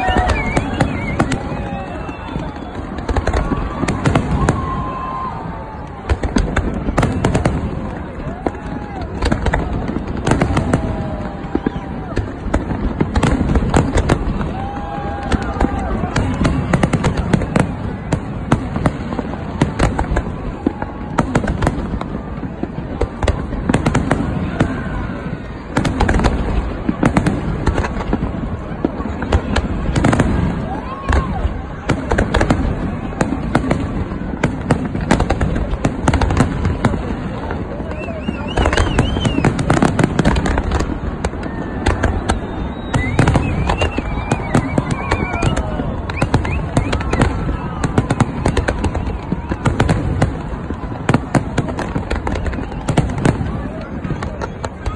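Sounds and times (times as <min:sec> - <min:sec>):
fireworks cracks and bangs: 0:00.0 - 0:54.9.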